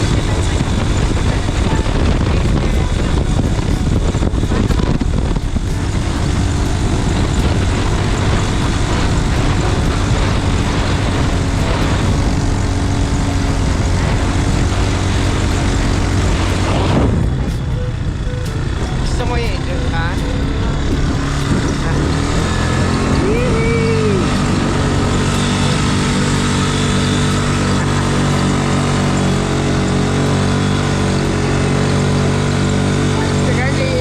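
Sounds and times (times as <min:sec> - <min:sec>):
engine droning: 0:00.0 - 0:34.0
rushing wind noise: 0:00.0 - 0:34.0.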